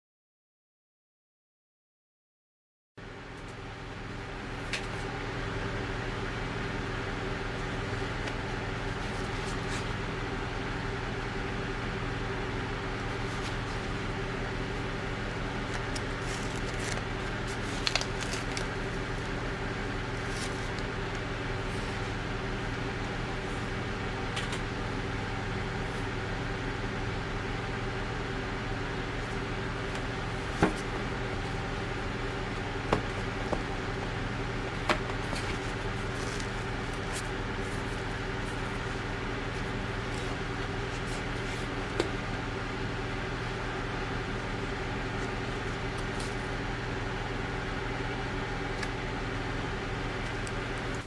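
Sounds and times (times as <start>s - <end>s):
mechanical hum: 3.0s - 51.0s.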